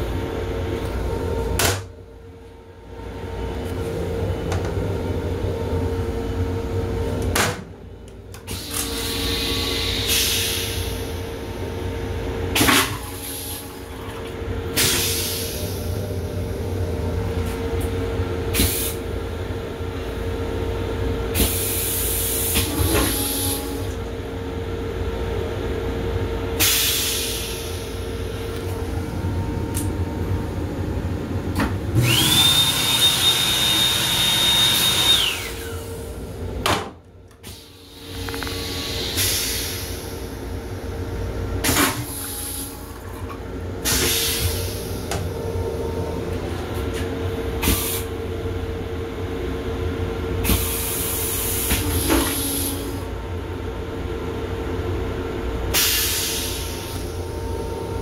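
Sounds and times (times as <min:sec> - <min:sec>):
train rumble and hum: 0:00.0 - 0:32.5, 0:35.2 - 0:58.0.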